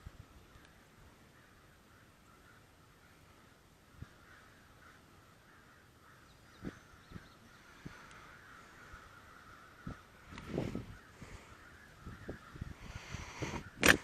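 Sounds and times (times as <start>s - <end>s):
crows cawing: 0.5s - 13.9s.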